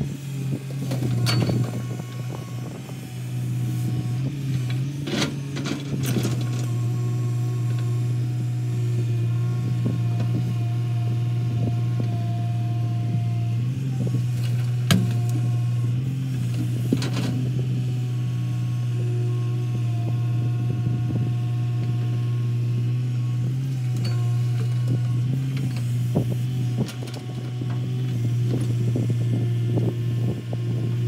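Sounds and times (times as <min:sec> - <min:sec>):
excavator diesel engine running: 0:00.0 - 0:31.0
hydraulic whine: 0:00.0 - 0:31.0.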